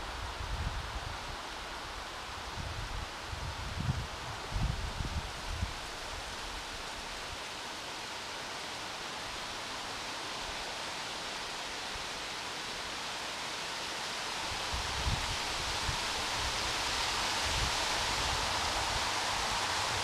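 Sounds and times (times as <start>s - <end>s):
wind rustling through leaves: 0.0s - 20.0s.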